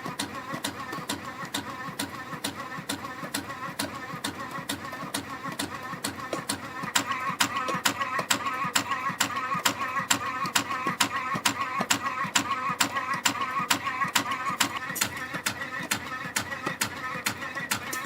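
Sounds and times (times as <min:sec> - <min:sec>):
spring coiling machine humming: 0:00.0 - 0:18.0
machine clicking: 0:00.1 - 0:18.0.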